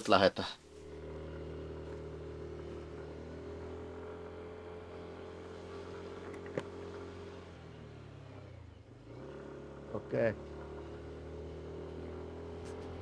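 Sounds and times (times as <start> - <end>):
motor scooter engine running: 0.6 - 13.0.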